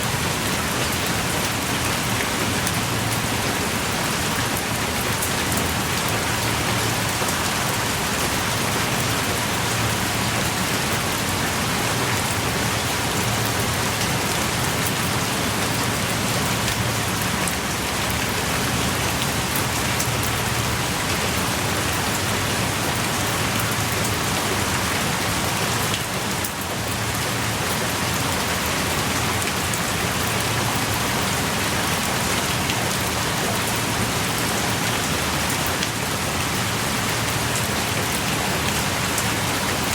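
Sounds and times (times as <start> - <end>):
heavy rain on rock: 0.0 - 39.9.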